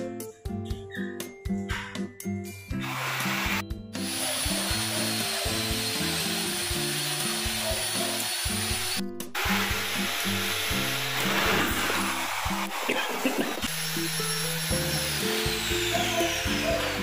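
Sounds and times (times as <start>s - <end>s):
background music: 0.0s - 17.0s
electric drill whining: 2.8s - 17.0s.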